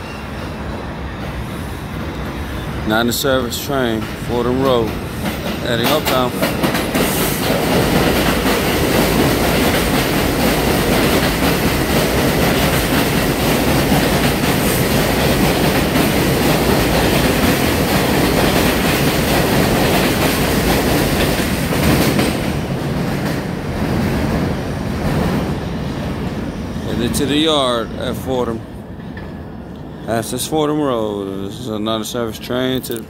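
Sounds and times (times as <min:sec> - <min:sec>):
subway train wheels on rails: 0:00.0 - 0:33.0.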